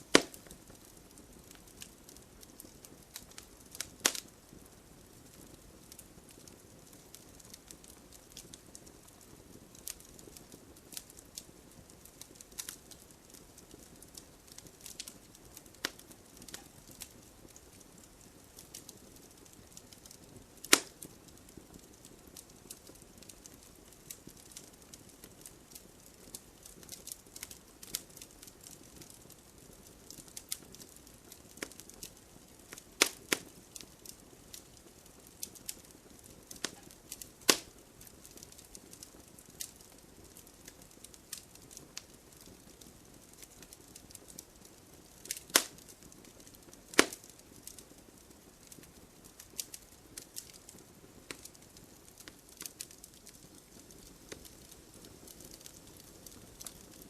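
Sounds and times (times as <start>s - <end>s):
fire crackling: 0.0s - 57.0s
loud pops of burning logs: 0.0s - 57.0s
soft hiss: 0.0s - 57.0s.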